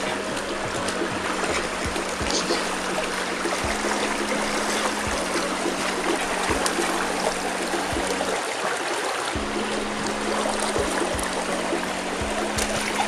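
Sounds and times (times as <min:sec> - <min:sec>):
brook water rushing over stones: 0:00.0 - 0:13.0.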